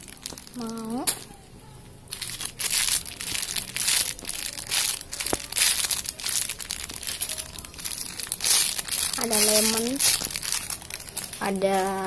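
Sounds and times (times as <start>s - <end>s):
plastic wrapping crinkling: 0.0s - 1.4s, 2.1s - 12.0s.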